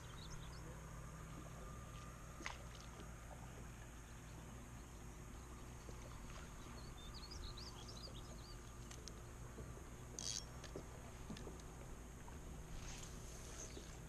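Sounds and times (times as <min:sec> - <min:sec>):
low steady background noise: 0:00.0 - 0:14.0.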